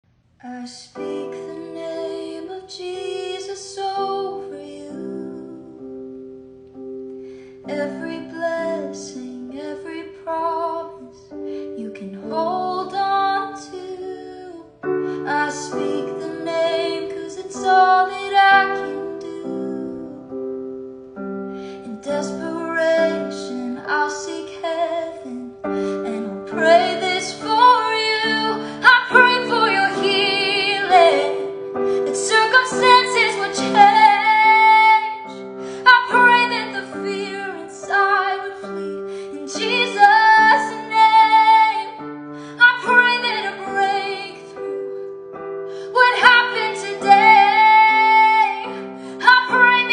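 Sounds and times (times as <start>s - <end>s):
woman singing: 0.4s - 6.1s, 7.6s - 20.5s, 21.7s - 45.1s, 45.8s - 49.9s
piano chords: 0.8s - 49.9s.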